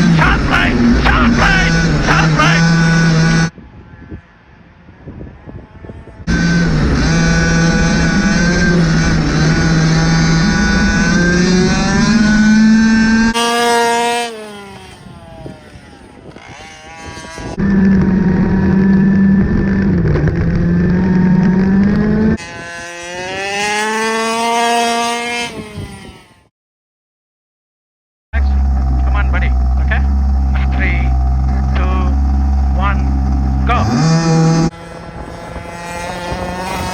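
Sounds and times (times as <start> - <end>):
rc car engine revving: 0.0 - 3.5, 6.3 - 26.5, 28.4 - 36.9.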